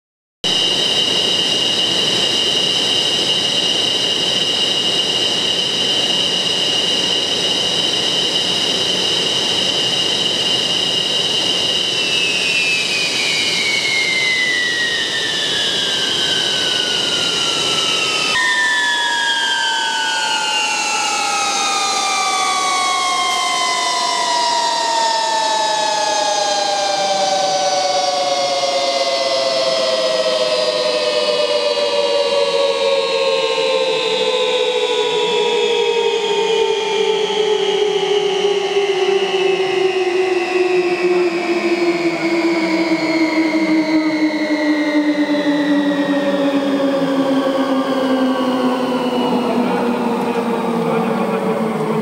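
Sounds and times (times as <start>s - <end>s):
jet engines whining: 0.4s - 52.0s.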